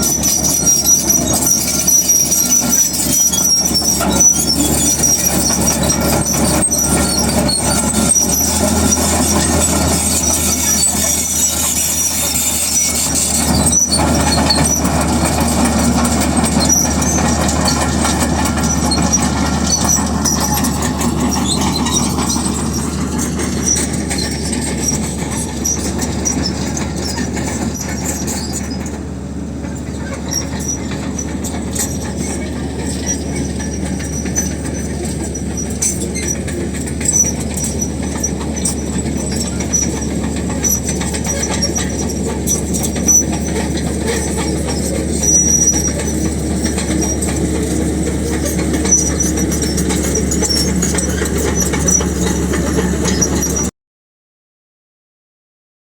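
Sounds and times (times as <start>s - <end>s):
diesel engine droning: 0.0s - 53.7s
steel tracks squealing and clanking: 0.0s - 53.7s.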